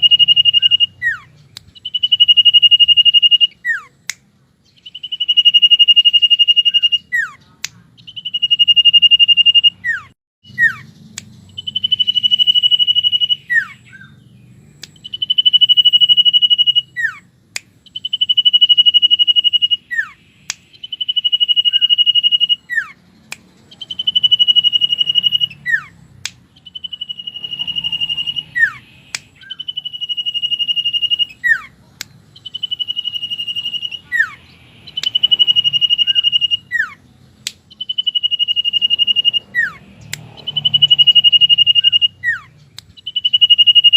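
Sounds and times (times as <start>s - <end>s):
bird whistling song: 0.0s - 43.9s.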